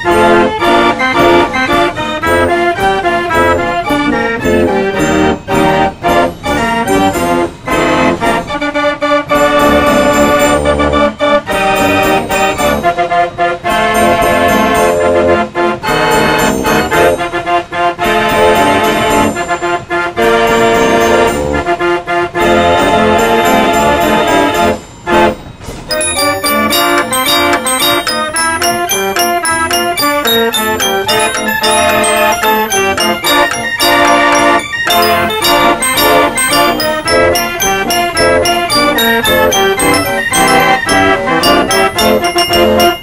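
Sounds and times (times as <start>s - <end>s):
band organ playing: 0.0s - 43.0s.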